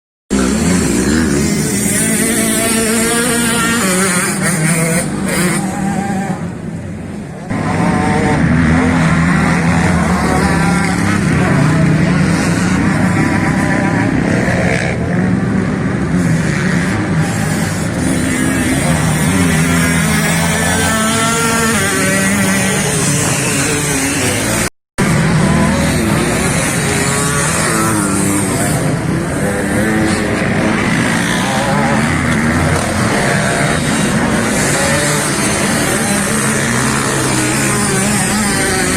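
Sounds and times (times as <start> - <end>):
motocross bike engine revving: 0.3 - 38.9.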